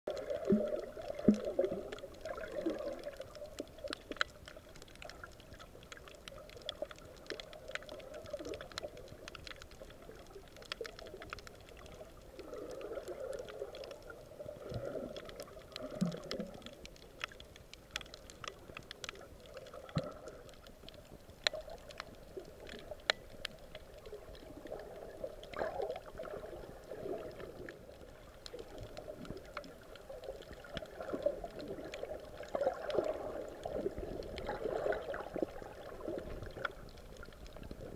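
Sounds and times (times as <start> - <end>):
sharp clicks and crackles: 0.1 - 37.9
water sloshing and gurgling underwater: 0.1 - 37.9.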